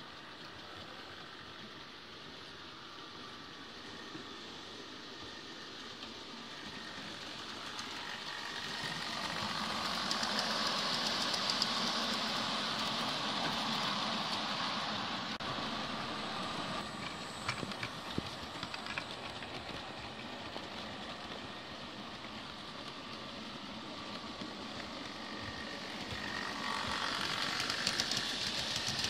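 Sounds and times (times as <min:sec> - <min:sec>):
model train wheels whirring: 0:00.0 - 0:29.0.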